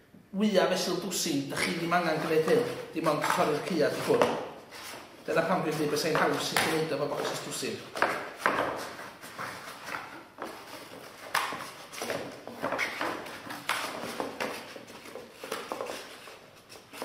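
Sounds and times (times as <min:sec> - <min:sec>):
cardboard rustling and scraping: 0:01.6 - 0:06.6, 0:07.2 - 0:17.0.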